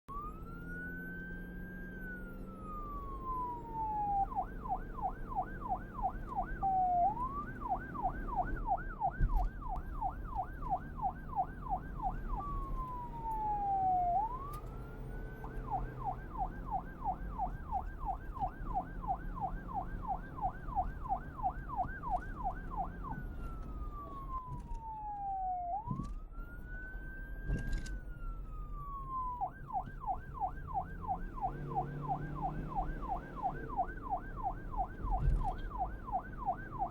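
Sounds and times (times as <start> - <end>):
police siren wailing and yelping: 0.1 - 36.9.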